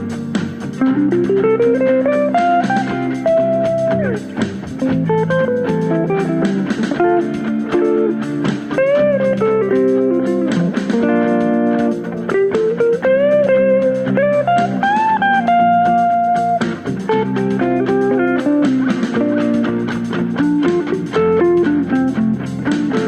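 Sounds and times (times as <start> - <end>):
bluesy guitar lead with bent notes: 0.0 - 23.0.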